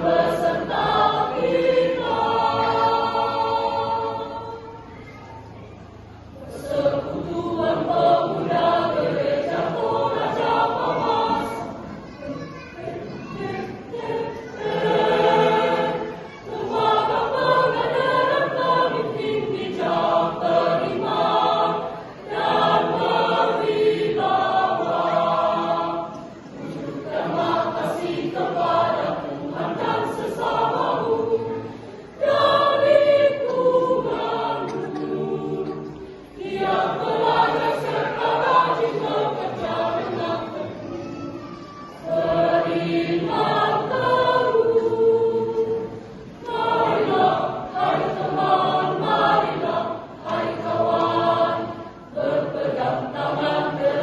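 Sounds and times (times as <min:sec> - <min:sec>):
church choir singing a march: 0:00.0 - 0:04.8, 0:06.4 - 0:11.9, 0:12.8 - 0:41.0, 0:42.0 - 0:54.0.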